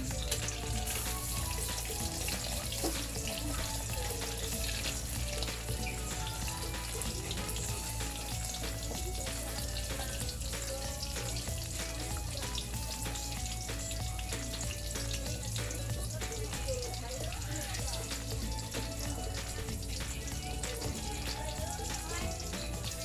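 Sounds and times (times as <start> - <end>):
background music: 0.0 - 23.0
patties frying with steady sizzle: 0.0 - 23.0.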